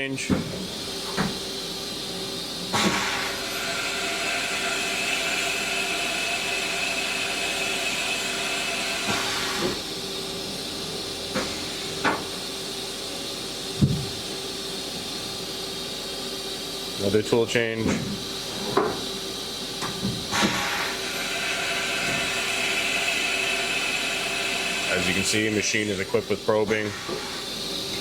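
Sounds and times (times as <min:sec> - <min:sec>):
air hiss: 0:00.6 - 0:14.8, 0:18.2 - 0:28.0.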